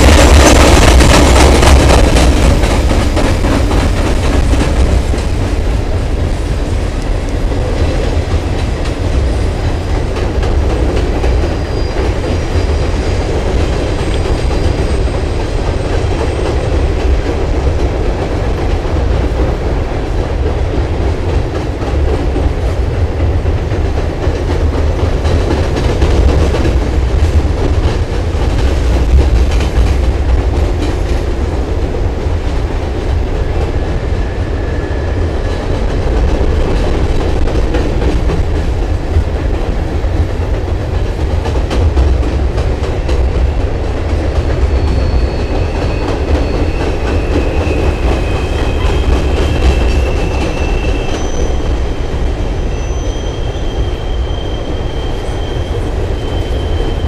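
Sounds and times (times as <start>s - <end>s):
freight train rumbling over bridge: 0.0s - 57.0s.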